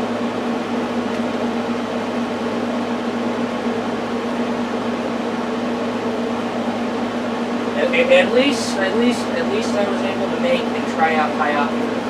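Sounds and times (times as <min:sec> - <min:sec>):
machine hum with low buzz: 0:00.0 - 0:12.0.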